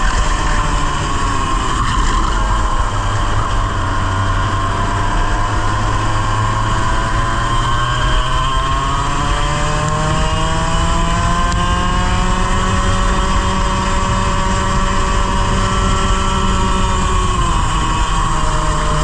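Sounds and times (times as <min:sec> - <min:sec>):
kart engine at full throttle: 0:00.0 - 0:19.0.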